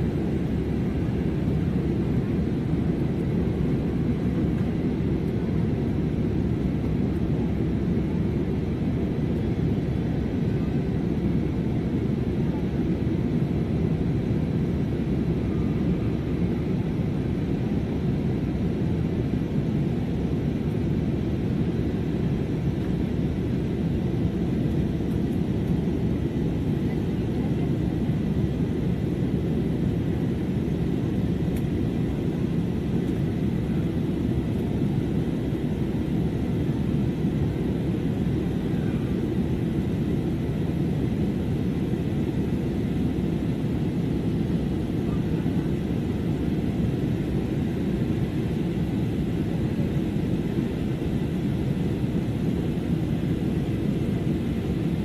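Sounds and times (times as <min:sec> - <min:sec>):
jet airliner cabin noise: 0:00.0 - 0:55.0.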